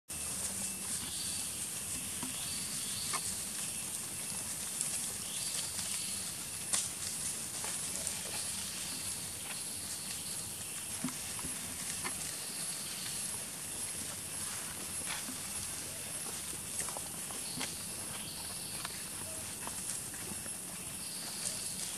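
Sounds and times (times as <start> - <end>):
animals rustling in dry leaves: 0.1 - 21.9.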